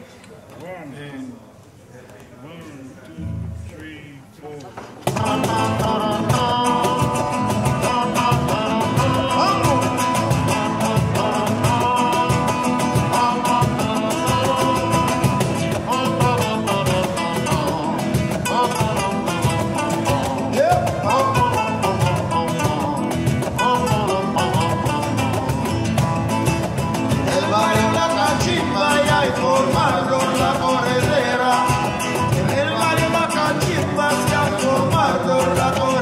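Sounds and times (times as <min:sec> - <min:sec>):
acoustic guitars strumming: 0:03.1 - 0:04.2, 0:04.8 - 0:36.0
cajon beat: 0:04.6 - 0:36.0
person singing: 0:05.1 - 0:25.4, 0:27.2 - 0:36.0.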